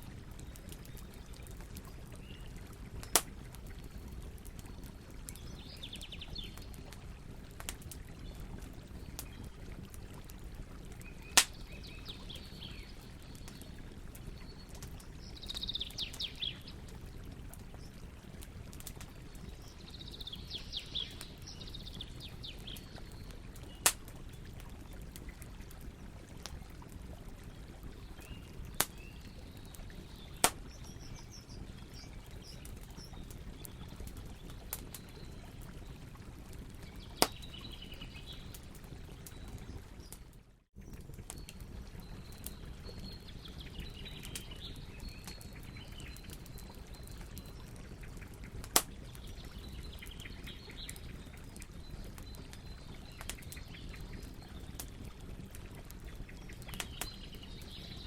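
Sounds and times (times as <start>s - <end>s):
fire crackling pops: 0.0s - 40.2s, 40.8s - 58.0s
campfire burning: 0.0s - 58.0s.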